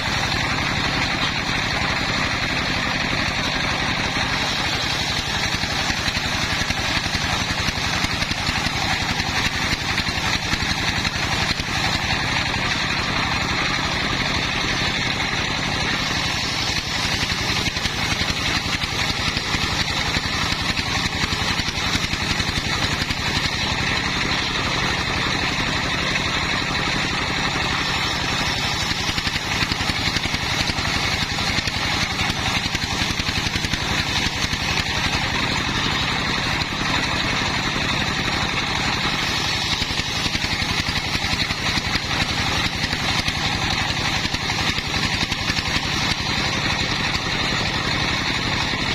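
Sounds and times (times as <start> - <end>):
saw engine pulsing: 0.0 - 48.9.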